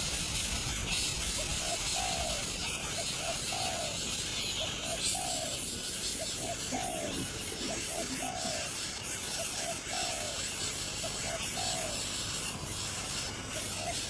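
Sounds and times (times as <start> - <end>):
steady high hiss: 0.0 - 14.0
dove cooing: 1.4 - 12.4, 13.5 - 14.0.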